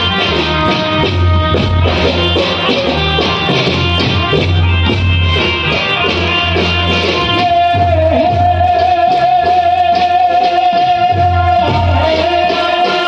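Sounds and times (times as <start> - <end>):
drumming: 0.0 - 13.0
loud amplified folk music: 0.0 - 13.0.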